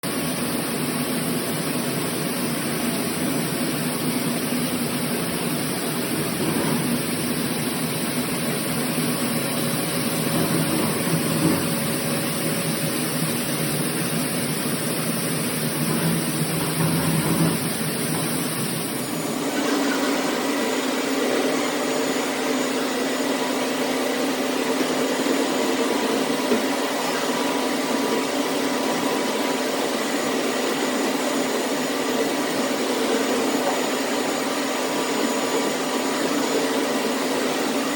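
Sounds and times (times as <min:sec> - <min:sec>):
washing machine whirring: 0:00.0 - 0:37.9.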